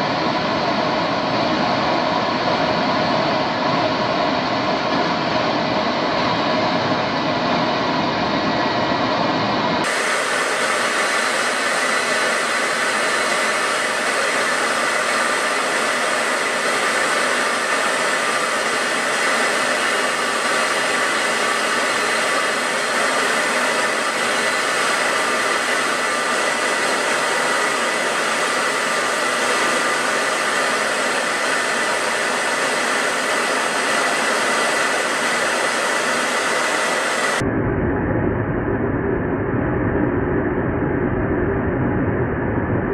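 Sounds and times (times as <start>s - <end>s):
jet aircraft rushing noise: 0.0s - 39.4s.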